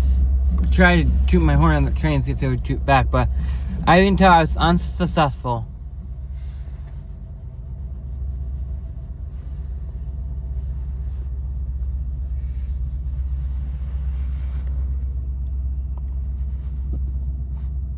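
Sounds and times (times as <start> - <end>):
deep vehicle rumble: 0.0 - 17.9.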